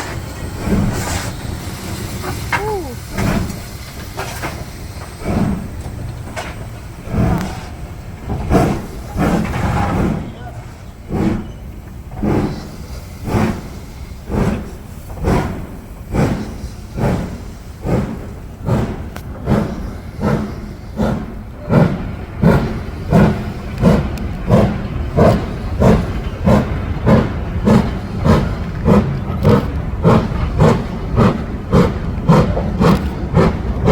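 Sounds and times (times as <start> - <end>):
steam locomotive chuffing: 0.0 - 33.9.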